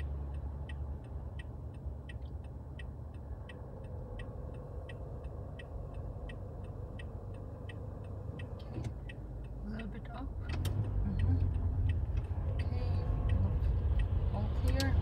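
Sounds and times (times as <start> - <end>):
car driving rumble: 0.0 - 15.0
turn signal clicking: 0.0 - 15.0.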